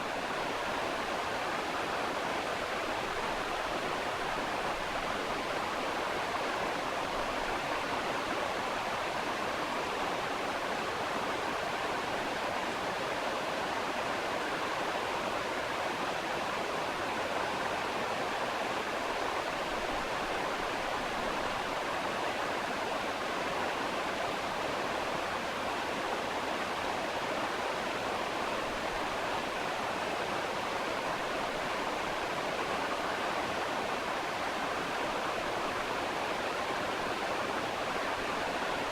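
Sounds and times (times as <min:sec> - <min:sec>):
steady rushing water: 0:00.0 - 0:38.9.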